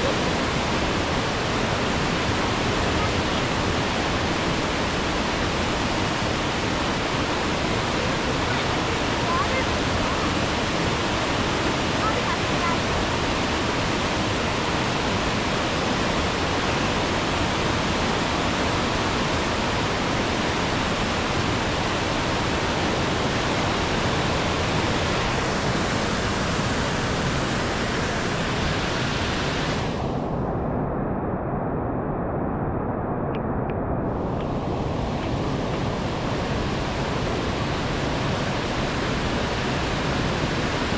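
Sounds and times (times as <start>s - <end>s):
river rushing over rapids: 0.0s - 32.0s, 32.7s - 40.9s.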